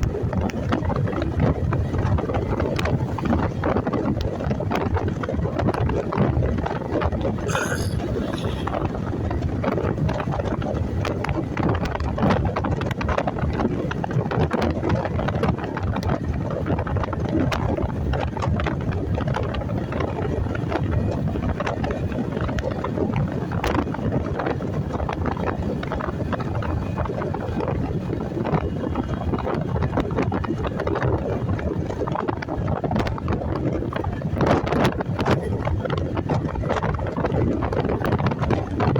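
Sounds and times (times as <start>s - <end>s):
motorcycle and road noise: 0.0s - 38.9s
wind buffeting microphone: 0.0s - 38.9s.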